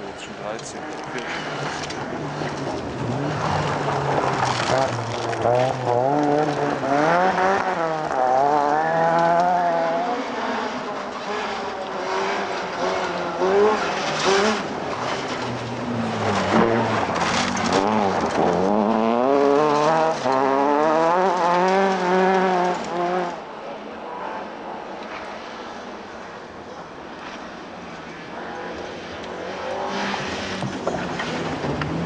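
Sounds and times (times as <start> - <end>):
rally car engine at full throttle: 0.0 - 32.0.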